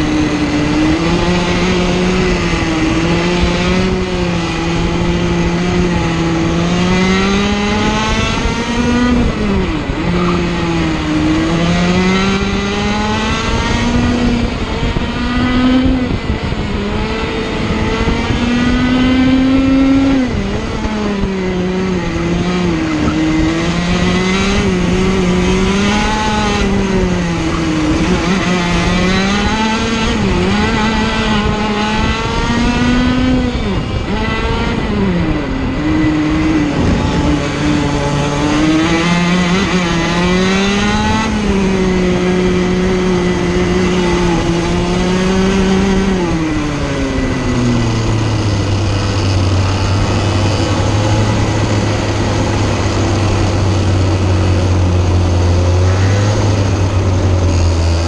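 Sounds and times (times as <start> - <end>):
two-stroke kart engine racing: 0.0 - 58.0.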